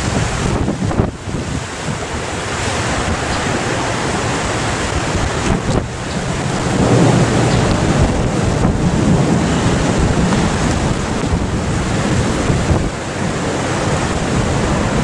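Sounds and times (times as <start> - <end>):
gusty wind through trees: 0.0 - 15.0
wind buffeting microphone: 0.0 - 15.0.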